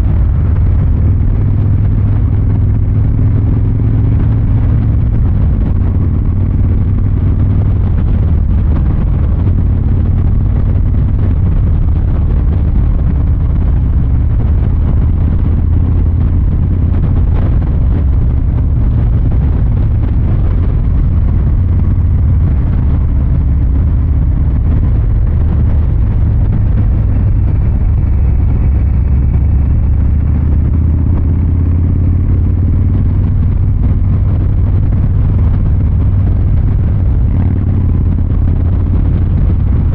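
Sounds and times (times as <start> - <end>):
motorcycle exhaust rumbling: 0.0 - 39.9.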